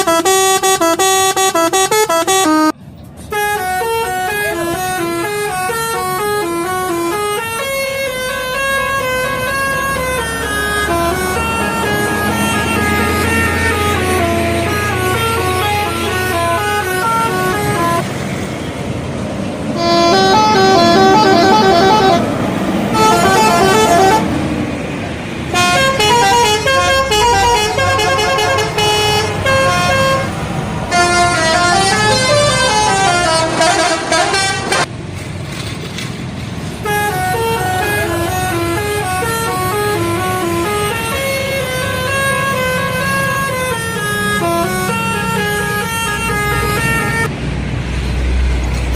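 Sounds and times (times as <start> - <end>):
multi-tone bus horns playing tunes: 0.0 - 18.6, 19.6 - 34.9, 36.8 - 47.3.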